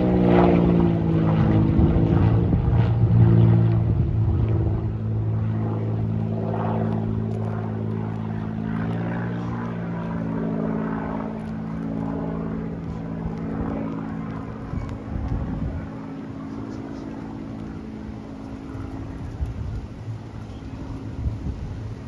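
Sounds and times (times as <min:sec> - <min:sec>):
propeller airplane engine droning: 0:00.0 - 0:22.0.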